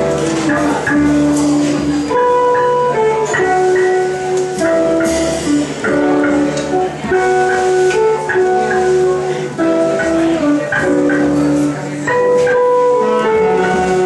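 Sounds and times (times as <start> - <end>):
guitar: 0.0 - 14.0
jazz band playing: 0.0 - 14.0
melody of held notes: 0.0 - 14.0.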